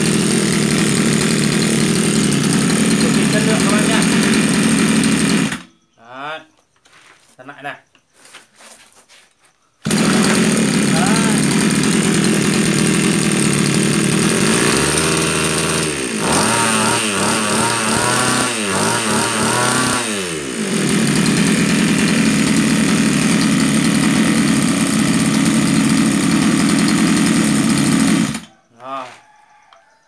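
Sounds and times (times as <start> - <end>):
brush-cutter engine running: 0.0 - 5.7, 9.8 - 28.6.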